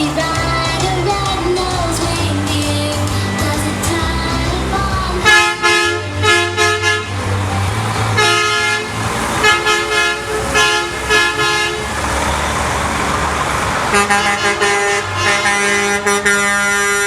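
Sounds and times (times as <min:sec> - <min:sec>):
truck engines rumbling: 0:00.0 - 0:17.0
truck horns honking: 0:00.0 - 0:17.0.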